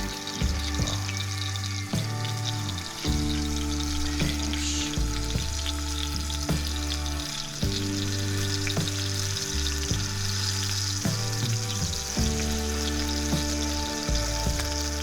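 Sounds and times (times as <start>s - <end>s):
background music with bass: 0.0s - 15.0s
steak sizzling in a skillet: 0.0s - 15.0s.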